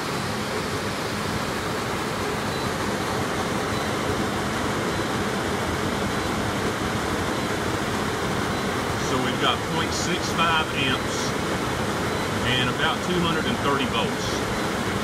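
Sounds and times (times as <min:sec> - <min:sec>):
blower motor rushing air: 0:00.0 - 0:15.0.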